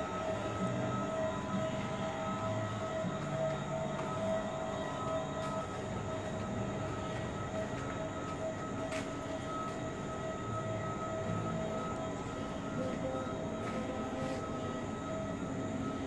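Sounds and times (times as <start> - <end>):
humming whine: 0.0 - 16.0.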